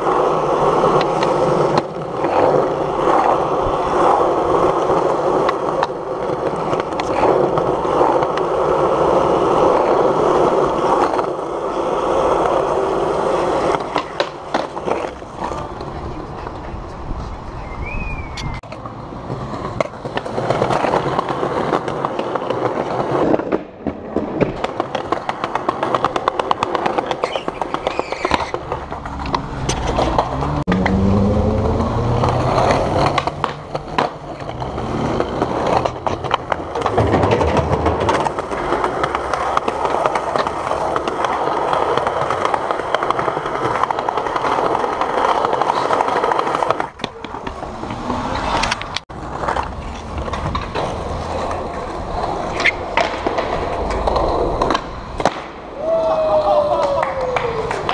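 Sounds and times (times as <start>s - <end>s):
skateboard wheels clacking over cracks: 0.0s - 57.9s
skateboard wheels rolling: 0.0s - 57.9s.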